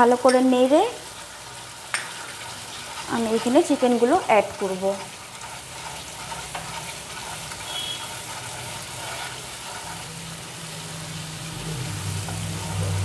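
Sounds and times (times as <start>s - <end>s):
paste sizzling in oil: 0.0s - 13.0s
spatula stirring in pan: 1.0s - 13.0s.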